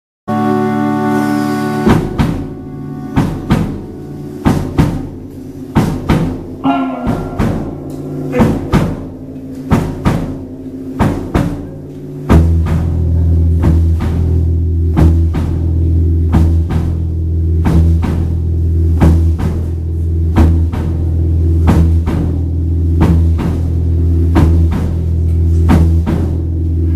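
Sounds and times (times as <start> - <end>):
guitars: 0.3 - 26.9
sustained low bass: 0.3 - 26.9
drum hits: 1.9 - 26.9.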